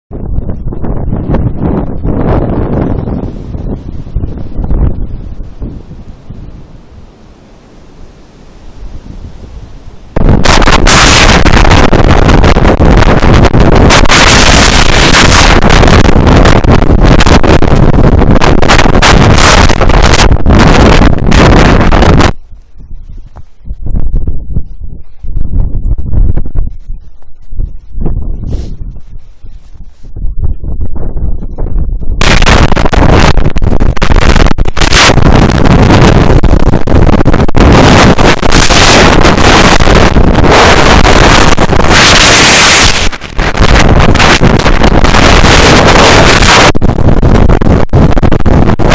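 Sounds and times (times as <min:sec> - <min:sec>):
strong wind into microphone: 0:00.1 - 0:48.9.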